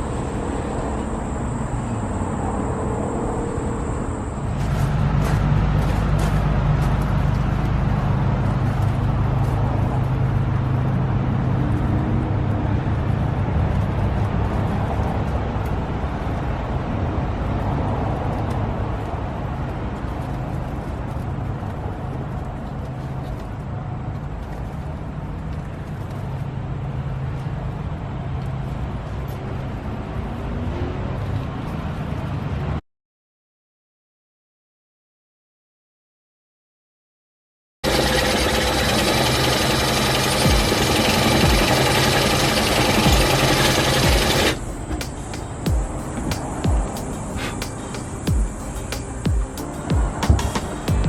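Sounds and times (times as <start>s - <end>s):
low mechanical drone: 0.0s - 32.6s, 37.8s - 51.0s.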